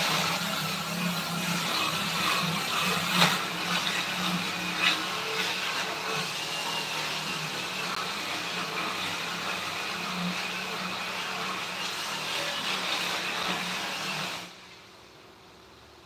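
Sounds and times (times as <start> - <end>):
motor running: 0.0 - 14.5.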